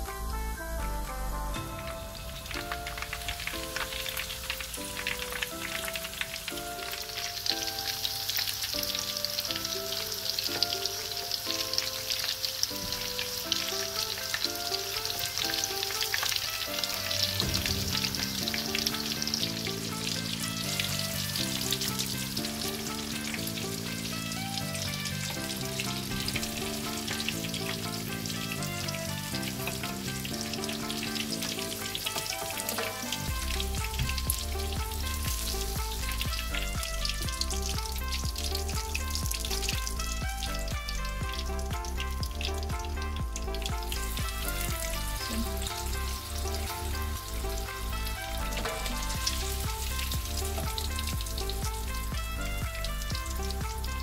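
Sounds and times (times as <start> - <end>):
light background music: 0.0 - 54.0
prawns deep-frying in oil: 0.0 - 54.0.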